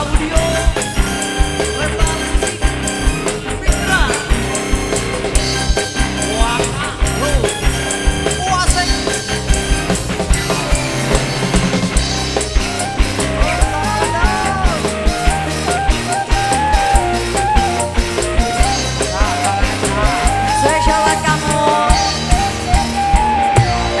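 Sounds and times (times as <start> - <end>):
fast drum beat: 0.0 - 24.0
melodic lead line bending: 0.0 - 24.0.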